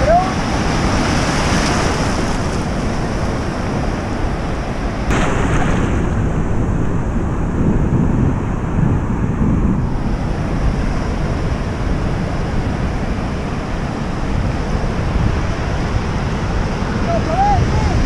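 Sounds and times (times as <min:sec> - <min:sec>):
ocean surf washing: 0:00.0 - 0:18.0
wind buffeting microphone: 0:00.0 - 0:18.0.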